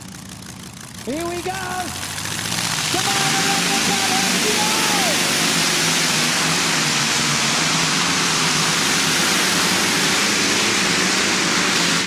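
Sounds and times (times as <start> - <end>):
tractor engine running flat out: 0.0 - 12.0.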